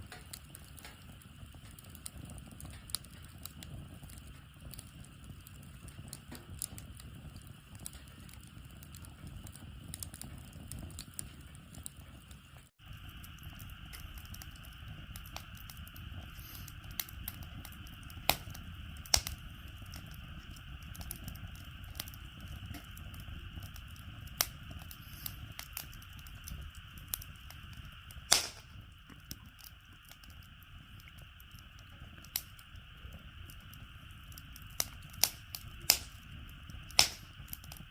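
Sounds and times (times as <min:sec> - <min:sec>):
sharp pops of fire: 0:00.0 - 0:37.9
wood fire crackling: 0:00.0 - 0:37.9.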